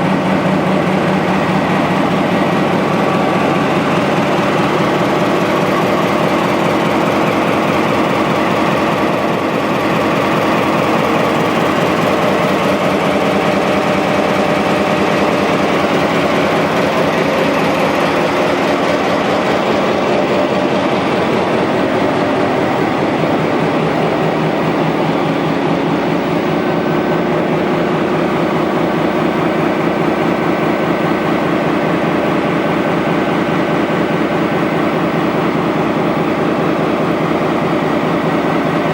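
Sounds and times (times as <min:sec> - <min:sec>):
diesel locomotive engine running: 0:00.0 - 0:38.9.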